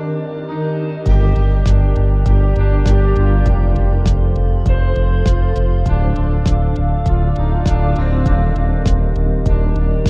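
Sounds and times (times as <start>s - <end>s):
synth or guitar notes: 0.0s - 10.0s
deep bass: 1.1s - 10.0s.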